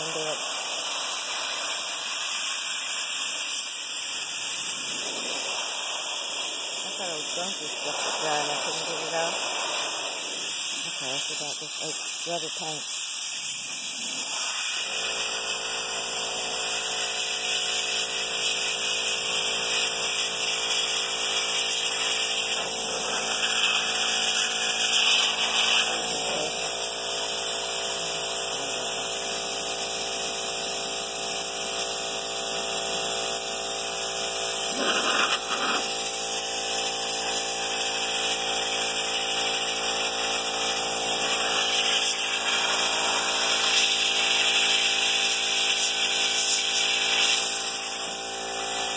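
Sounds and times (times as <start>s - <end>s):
soda blaster hissing: 0.0s - 30.1s, 34.5s - 48.9s
steady motor hum: 0.0s - 48.9s.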